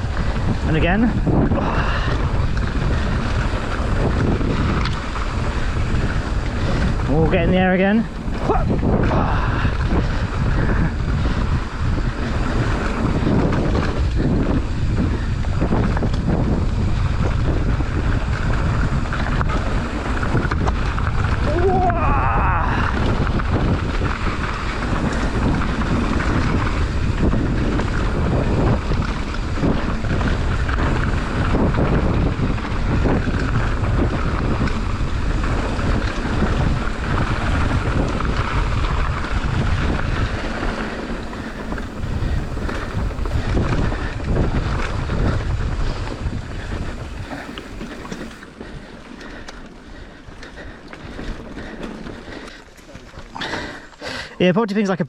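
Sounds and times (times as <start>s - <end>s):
bike tyres rushing on trail: 0.0s - 55.0s
wind buffeting microphone: 0.0s - 55.0s.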